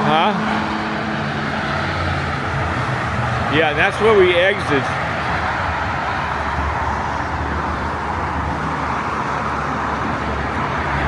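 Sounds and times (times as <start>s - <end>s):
highway traffic: 0.0s - 11.0s.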